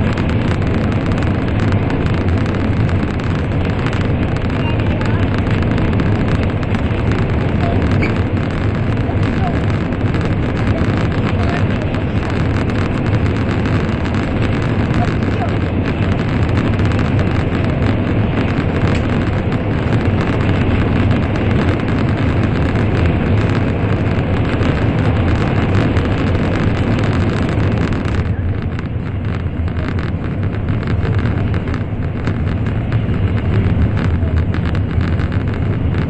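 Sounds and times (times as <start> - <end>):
train rumbling in a tunnel: 0.0 - 36.0.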